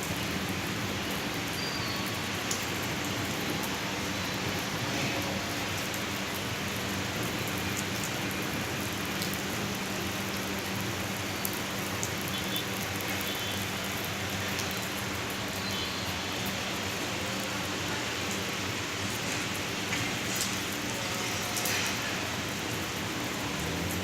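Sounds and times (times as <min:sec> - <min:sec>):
rain splashing on surfaces: 0:00.0 - 0:24.0.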